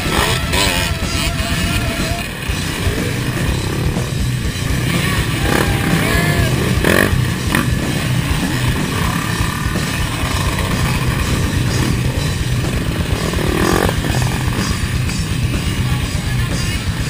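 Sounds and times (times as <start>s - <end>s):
dirt bike engines passing: 0.0s - 17.0s
rock music with steady beat: 0.0s - 17.0s.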